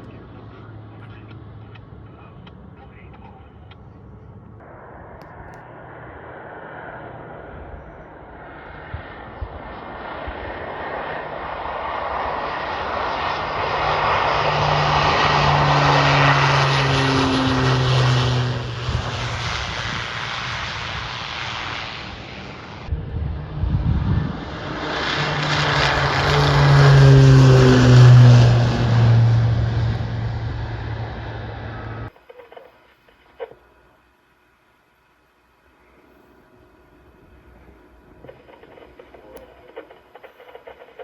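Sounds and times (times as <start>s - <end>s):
aircraft engine: 0.0s - 33.7s, 35.8s - 41.0s.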